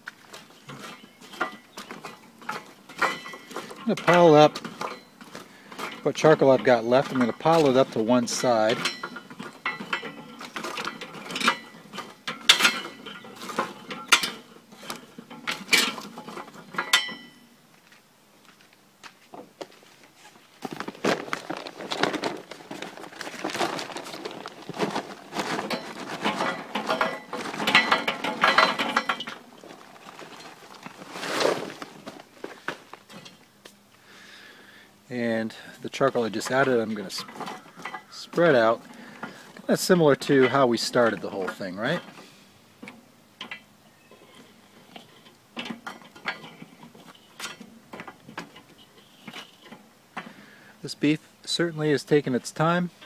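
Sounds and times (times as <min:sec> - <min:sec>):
charcoal briquettes clattering on metal: 0:00.0 - 0:17.5, 0:20.6 - 0:53.0.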